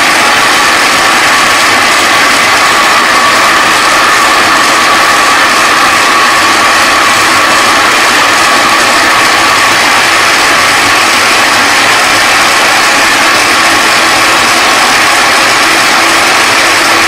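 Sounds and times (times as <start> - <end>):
food chopper motor running: 0.0 - 17.0.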